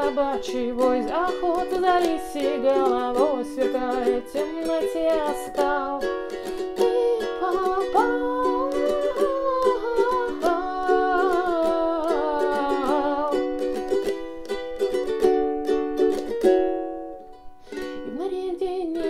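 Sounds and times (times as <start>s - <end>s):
ukulele strumming: 0.0s - 19.0s.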